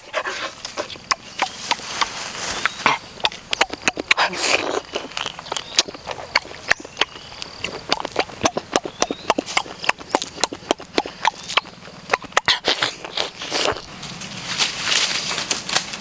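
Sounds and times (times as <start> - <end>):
fruit being cracked and peeled: 0.5 - 14.3.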